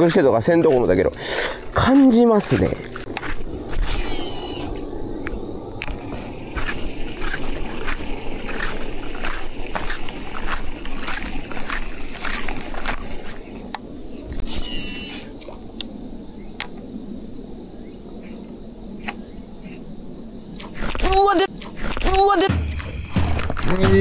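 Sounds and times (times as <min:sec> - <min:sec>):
steady high-pitched drone: 0:00.0 - 0:21.5
insects chirping: 0:00.0 - 0:24.0.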